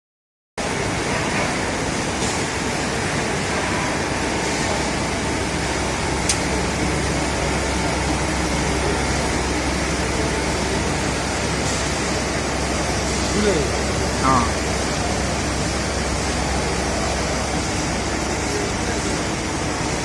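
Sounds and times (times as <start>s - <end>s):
lathe machine running: 0.6s - 20.0s.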